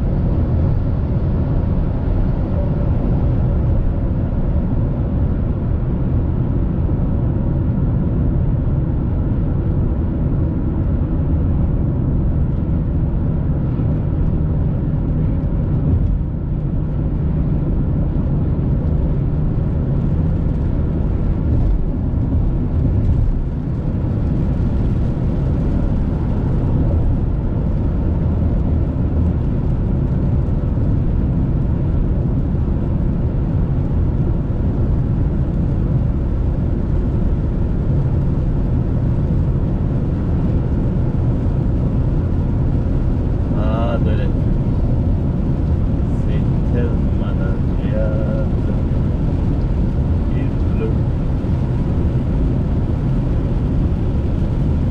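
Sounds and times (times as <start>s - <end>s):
car cabin road and engine rumble: 0.0s - 54.9s.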